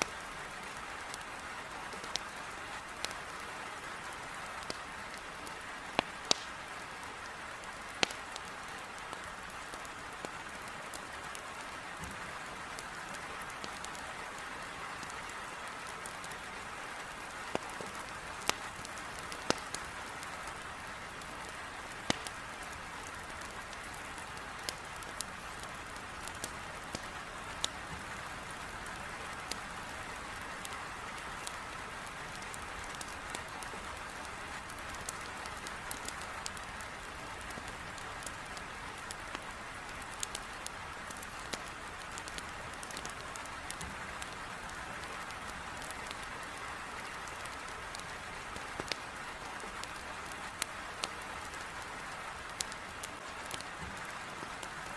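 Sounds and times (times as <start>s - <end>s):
firewood crackling in a fireplace: 0.0s - 54.9s
heavy rain on a window: 0.0s - 54.9s.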